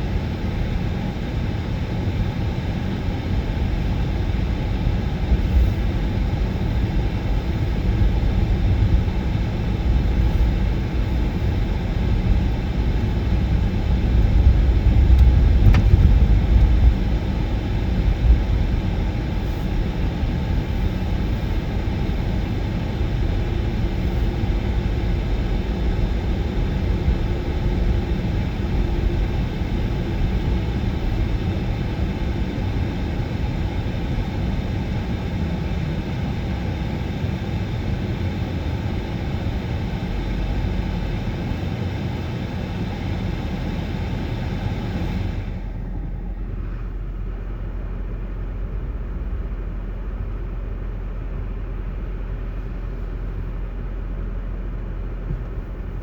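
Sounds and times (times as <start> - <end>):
vehicle rumble in motion: 0.0 - 37.1, 43.3 - 56.0.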